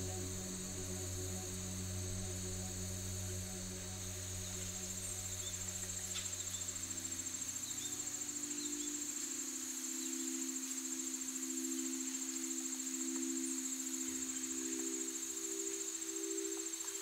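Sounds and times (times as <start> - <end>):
soft low drone: 0.0 - 14.8
crickets trilling: 0.0 - 17.0.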